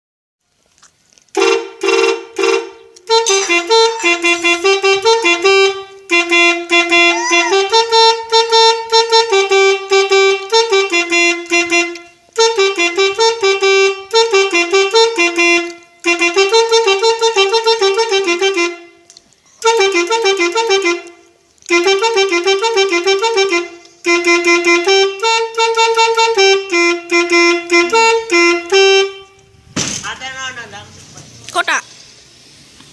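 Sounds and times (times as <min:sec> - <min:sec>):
multi-tone melody horn: 0:01.3 - 0:29.7.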